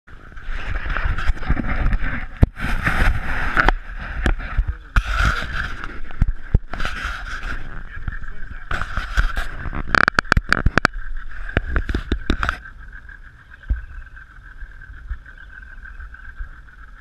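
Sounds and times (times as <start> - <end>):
gusty wind: 0.1 - 17.0
water noise around boat: 0.1 - 17.0.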